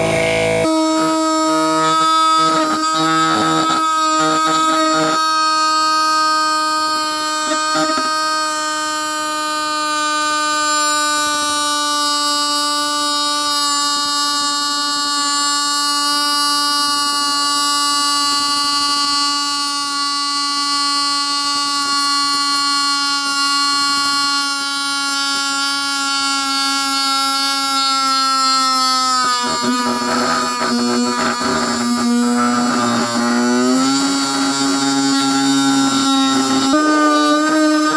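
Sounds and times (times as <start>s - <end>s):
mini vacuum cleaner motor whining: 0.0s - 37.9s.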